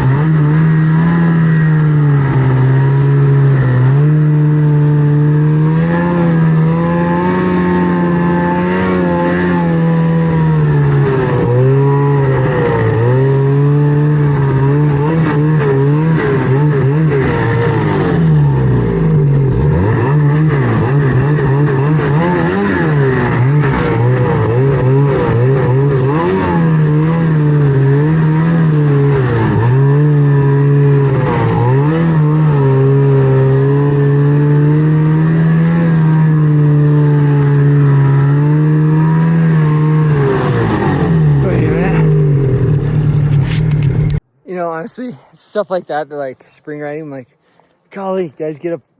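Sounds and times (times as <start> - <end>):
snowmobile engine revving: 0.0 - 44.2.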